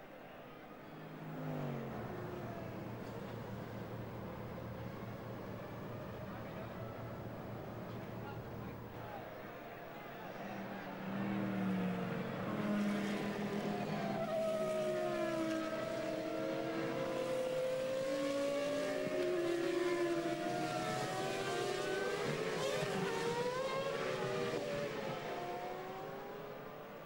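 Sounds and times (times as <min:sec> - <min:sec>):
racing cars passing by: 0:00.0 - 0:27.0.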